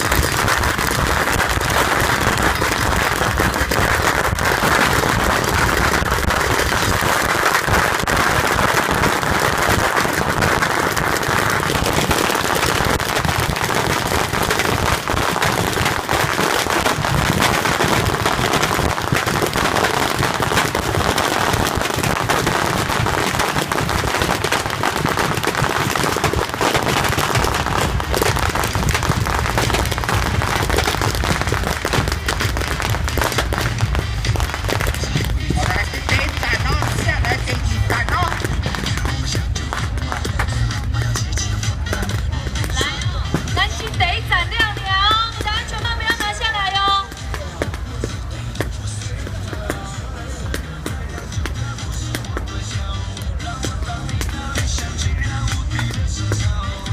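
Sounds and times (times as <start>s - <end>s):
fireworks crackle of rapid bangs: 0.0s - 56.9s.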